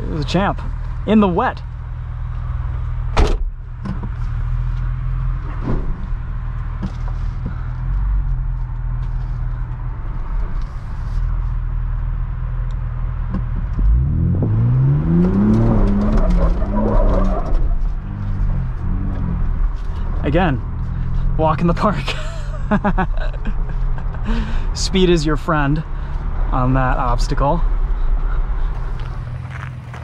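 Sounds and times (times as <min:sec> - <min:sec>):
engine idling and revving: 0:00.0 - 0:30.0.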